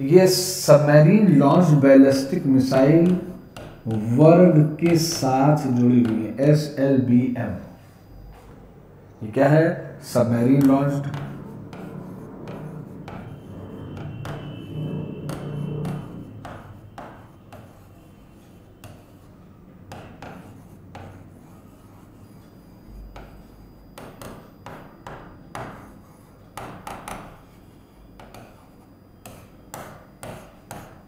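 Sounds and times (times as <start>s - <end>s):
marker scratching on whiteboard: 0.1s - 8.6s, 9.3s - 31.0s.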